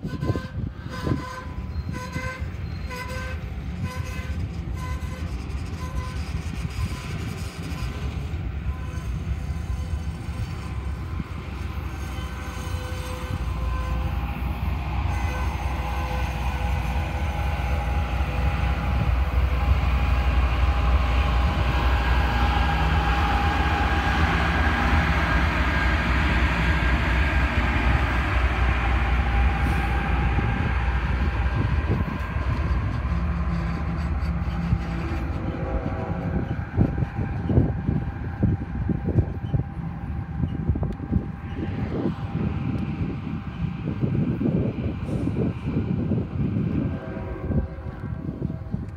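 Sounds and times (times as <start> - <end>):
container train rolling past: 0.0 - 48.9
diesel locomotive engine: 0.0 - 48.9.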